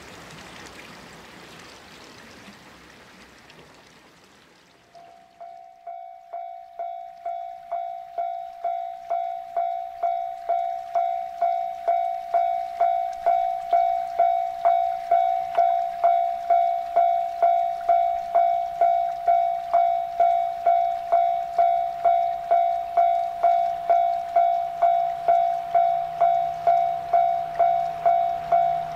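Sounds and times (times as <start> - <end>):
low hum of train: 4.9 - 28.9
level-crossing warning bell: 5.0 - 28.9.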